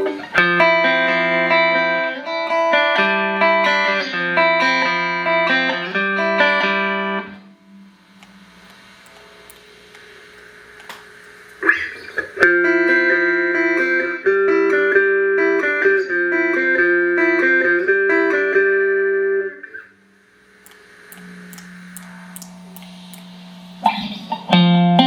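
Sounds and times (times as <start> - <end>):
amp hum and hiss: 0.0 - 15.3, 19.3 - 25.0
clean electric guitar: 0.0 - 25.0.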